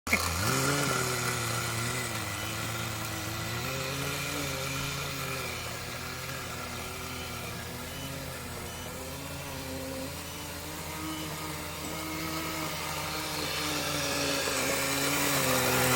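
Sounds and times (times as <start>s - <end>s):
small glow engine running: 0.1s - 15.9s.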